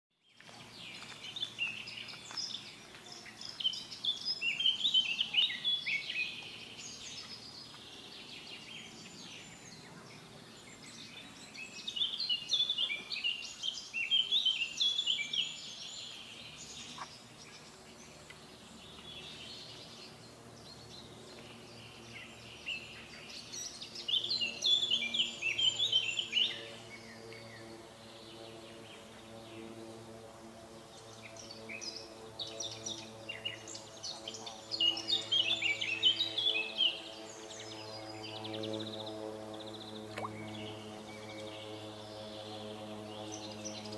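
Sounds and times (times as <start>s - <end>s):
outdoor background noise: 0.1s - 43.9s
songbird chirping: 0.2s - 28.2s, 32.6s - 42.0s.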